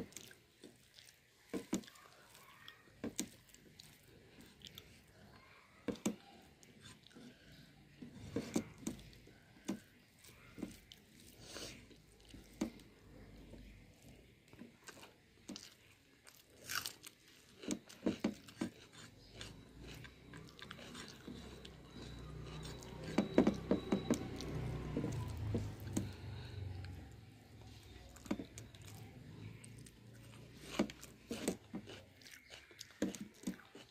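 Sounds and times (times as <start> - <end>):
person chewing: 0.0 - 33.9.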